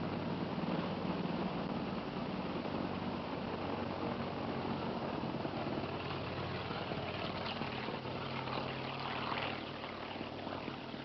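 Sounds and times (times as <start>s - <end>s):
helicopter flying: 0.0s - 11.0s.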